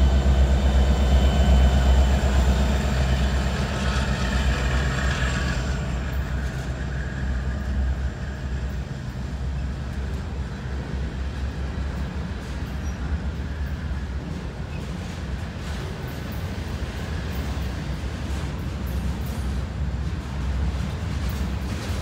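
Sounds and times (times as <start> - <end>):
diesel locomotive engine rumble: 0.0 - 22.0
freight cars rolling past: 0.0 - 22.0.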